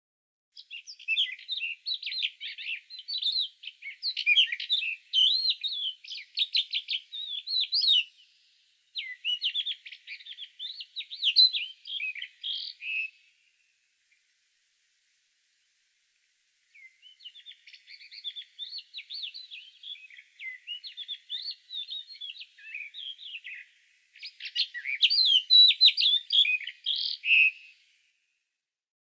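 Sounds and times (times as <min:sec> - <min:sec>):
songbird singing: 0:00.6 - 0:28.2.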